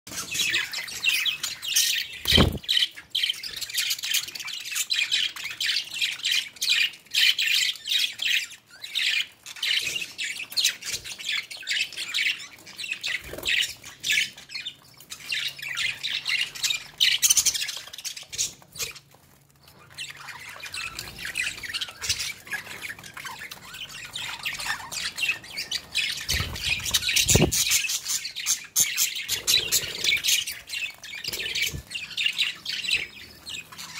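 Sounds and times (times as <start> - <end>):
budgerigars chattering and squawking: 0.1 - 33.9.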